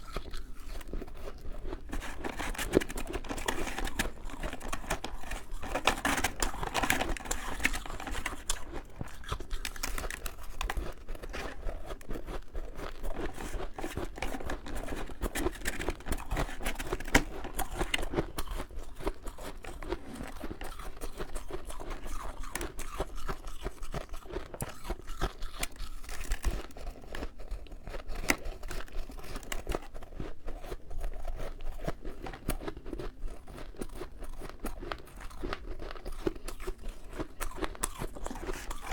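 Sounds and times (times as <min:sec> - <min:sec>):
frost crunching and chewing: 0:00.0 - 0:38.9.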